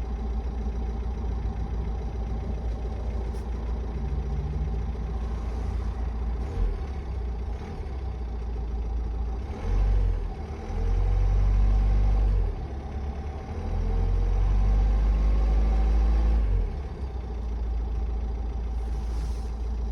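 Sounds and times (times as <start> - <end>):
diesel engine idling and revving: 0.0 - 19.9.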